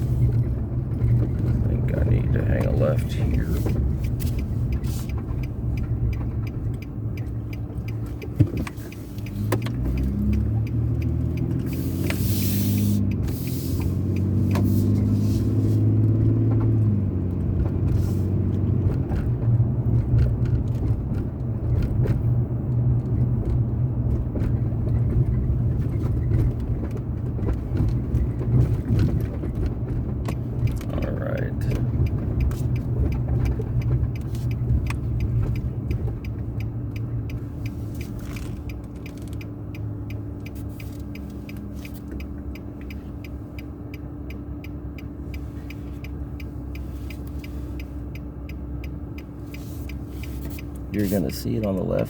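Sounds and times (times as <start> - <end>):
car engine and tyre rumble: 0.0 - 52.0.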